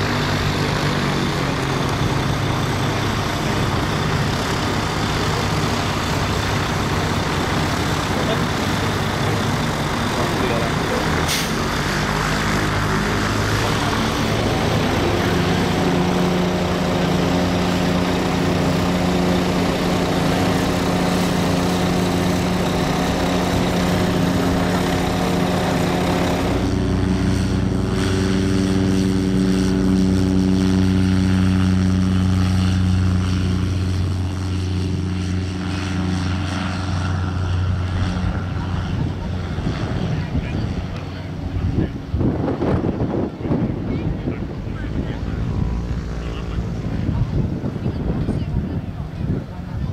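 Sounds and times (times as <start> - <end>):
motor glider engine taking off: 0.0 - 49.9
propeller aircraft engine running: 0.0 - 49.9.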